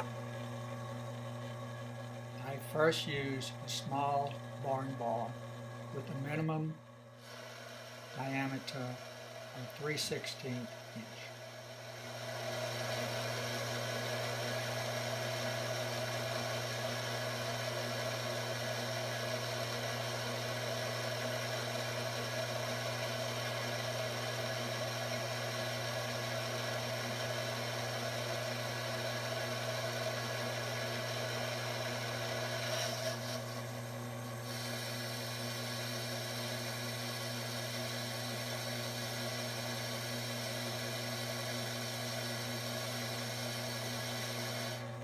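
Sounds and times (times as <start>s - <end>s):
lathe motor hum and whir: 0.0s - 45.0s
boring bar cutting metal: 7.2s - 33.7s, 34.4s - 44.9s.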